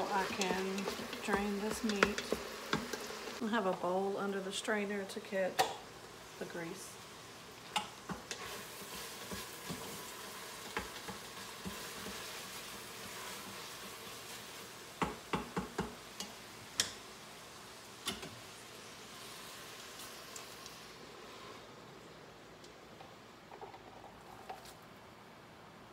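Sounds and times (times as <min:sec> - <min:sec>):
meat sizzling faintly in a pot: 0:00.0 - 0:24.9.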